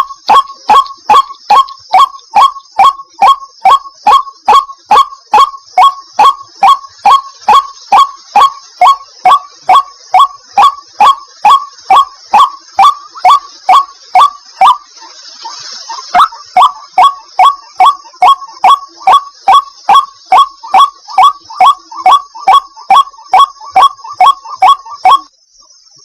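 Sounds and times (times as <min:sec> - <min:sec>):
bird calling short sliding notes: 0:00.0 - 0:25.3
steady high hiss: 0:00.0 - 0:26.0.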